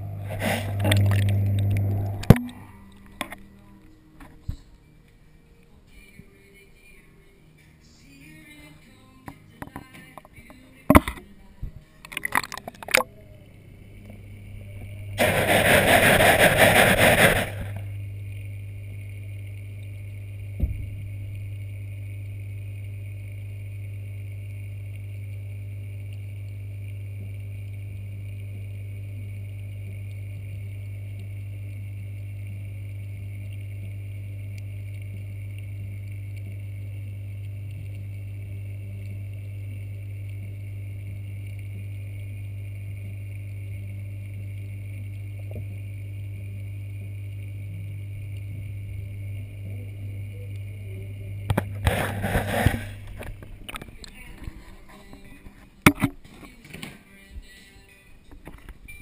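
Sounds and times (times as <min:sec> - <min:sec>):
filter pump hum underwater: 0:00.0 - 0:59.0.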